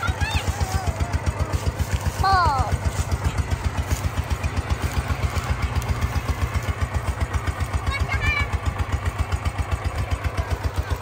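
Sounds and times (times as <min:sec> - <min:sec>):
water pump engine running: 0:00.0 - 0:11.0.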